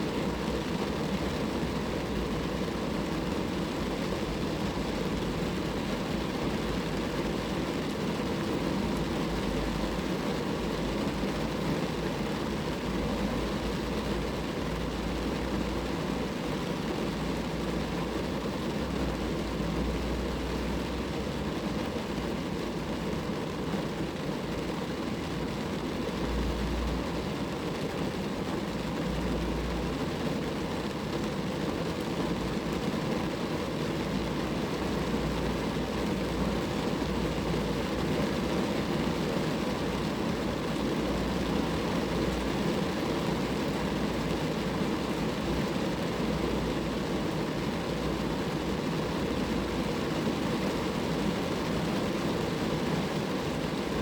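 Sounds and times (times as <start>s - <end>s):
rain falling on a car: 0.0s - 54.0s.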